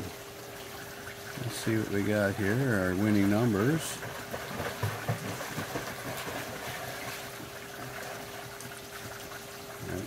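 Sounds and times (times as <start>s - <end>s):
faint steady hum: 0.0s - 10.0s
running pool water: 0.0s - 10.0s.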